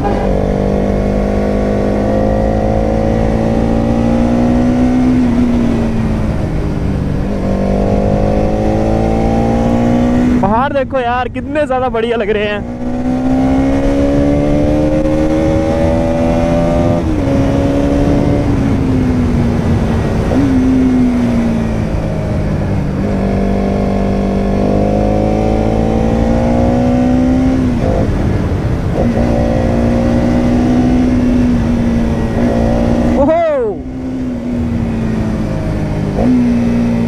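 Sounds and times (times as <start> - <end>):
wind rush on microphone: 0.0 - 37.0.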